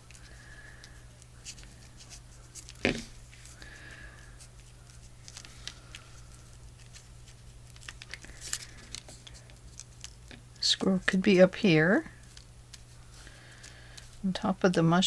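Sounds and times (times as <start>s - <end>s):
paper rustling and clicking: 0.0s - 3.8s, 4.6s - 10.4s, 12.2s - 14.8s
low steady hum: 0.0s - 15.0s.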